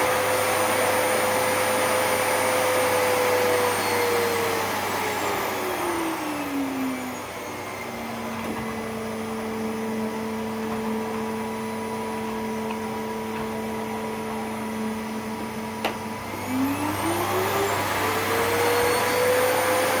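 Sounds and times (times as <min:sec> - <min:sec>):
vacuum cleaner motor running: 0:00.0 - 0:20.0.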